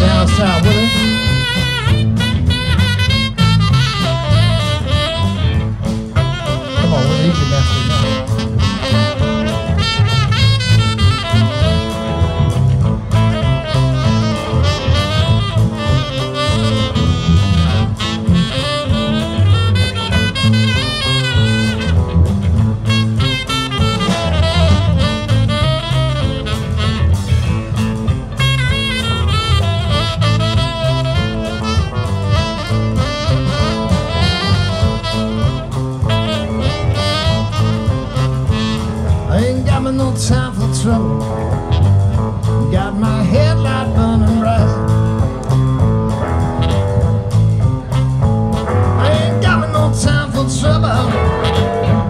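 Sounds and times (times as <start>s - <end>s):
live blues band playing: 0.0s - 52.0s
saxophone: 0.0s - 52.0s.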